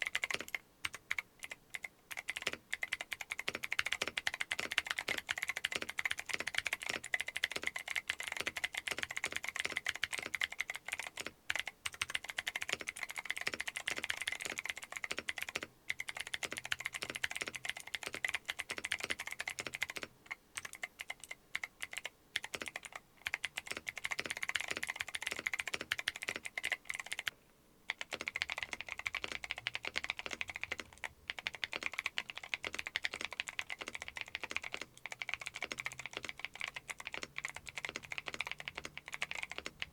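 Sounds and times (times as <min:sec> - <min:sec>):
fast typing on mechanical keyboard: 0:00.0 - 0:27.3, 0:27.9 - 0:39.9.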